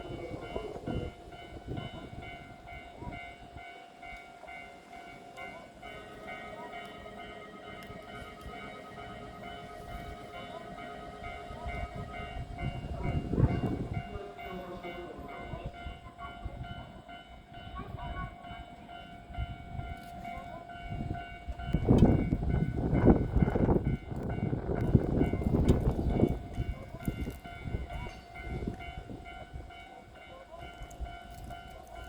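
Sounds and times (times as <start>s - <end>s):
electric train whine: 0.0s - 32.0s
train rumbling: 0.0s - 32.0s.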